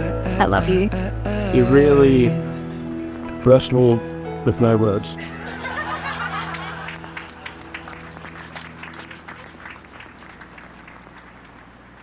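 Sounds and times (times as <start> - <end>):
crowd applauding: 1.6 - 12.0.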